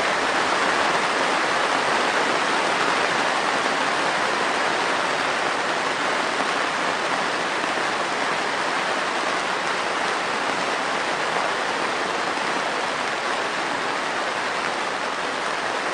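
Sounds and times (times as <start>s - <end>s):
heavy rain on greenhouse roof: 0.0s - 15.9s.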